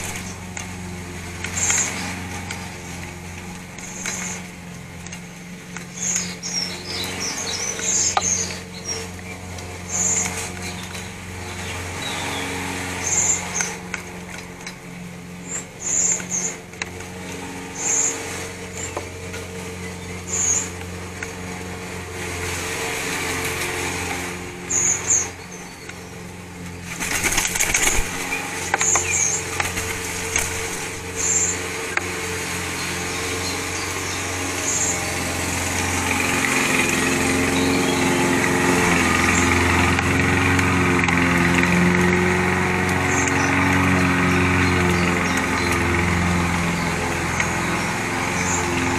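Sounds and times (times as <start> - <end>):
small engine running: 0.0 - 48.9.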